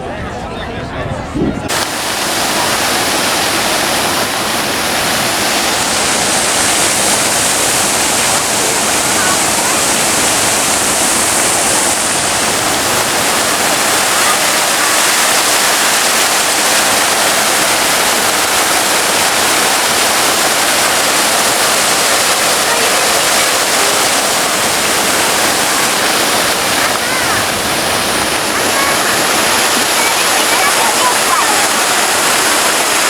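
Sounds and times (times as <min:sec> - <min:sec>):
falling water rushing: 0:01.7 - 0:33.0.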